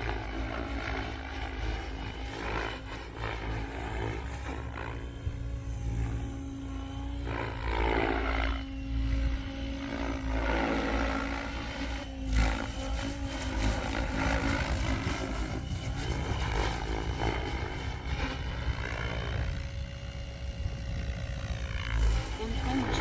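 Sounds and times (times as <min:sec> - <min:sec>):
rc helicopter rotor buzzing whine: 0:00.0 - 0:23.0.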